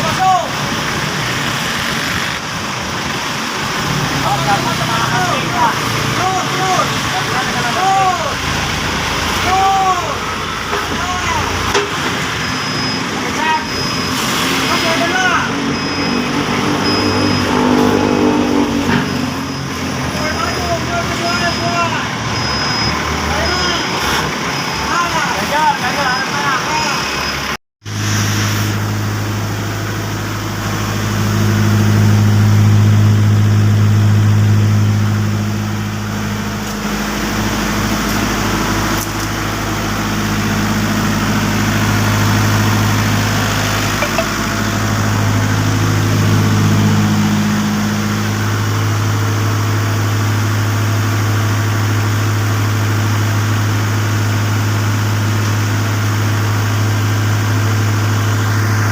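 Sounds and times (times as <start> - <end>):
diesel generator engine droning: 0.0 - 58.9.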